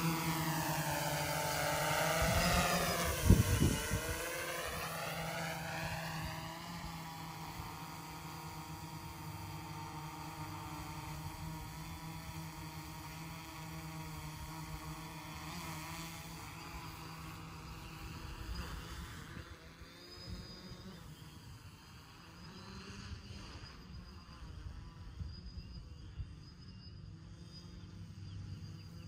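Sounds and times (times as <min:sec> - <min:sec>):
drone propellers buzzing: 0:00.0 - 0:24.7.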